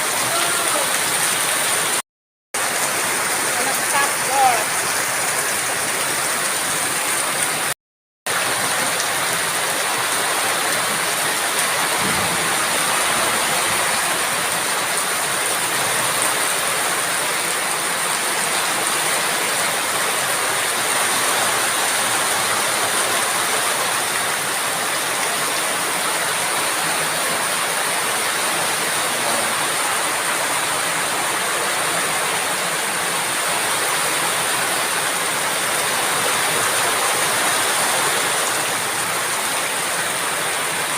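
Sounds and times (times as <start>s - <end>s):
steady rain falling: 0.0s - 2.0s, 2.6s - 40.9s.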